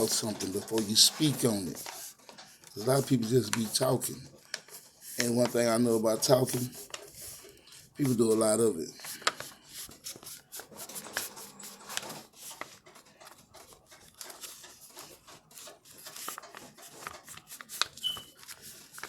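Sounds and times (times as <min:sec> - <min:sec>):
rubbing and scraping: 0:00.0 - 0:19.0.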